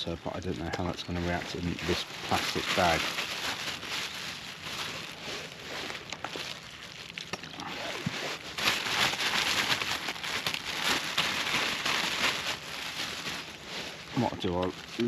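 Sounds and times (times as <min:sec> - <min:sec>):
crackers crunching in bag: 0:00.0 - 0:15.0
plastic bag crinkling: 0:00.0 - 0:15.0.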